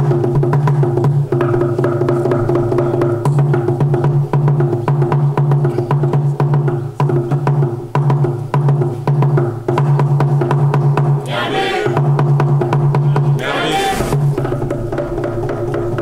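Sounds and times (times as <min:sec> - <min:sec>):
fast clicking percussion beat: 0:00.0 - 0:16.0.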